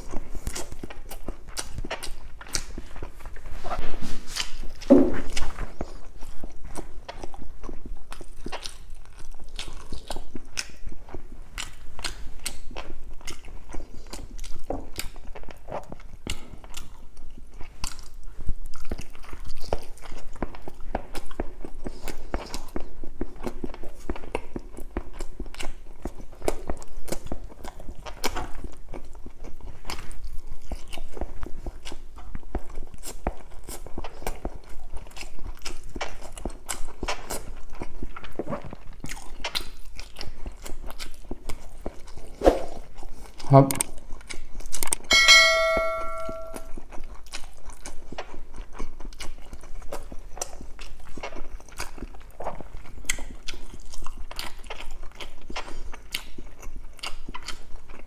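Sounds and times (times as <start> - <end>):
person chewing wet smacks: 0.0 - 3.4, 4.2 - 45.1, 46.7 - 58.0.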